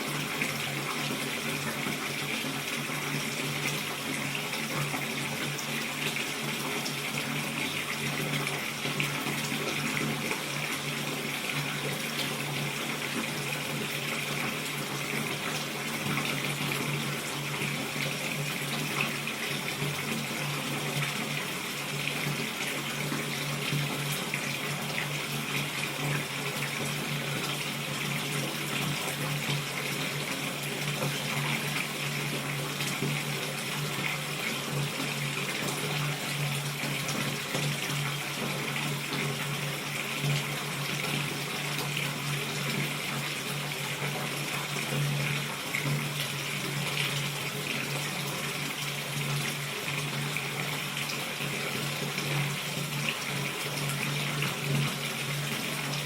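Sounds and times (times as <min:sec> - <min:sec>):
water splashing into bathtub: 0:00.0 - 0:56.0.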